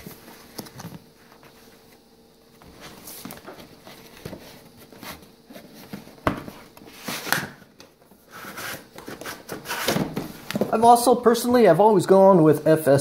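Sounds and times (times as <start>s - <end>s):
cardboard rustling and scraping: 0.0s - 11.1s.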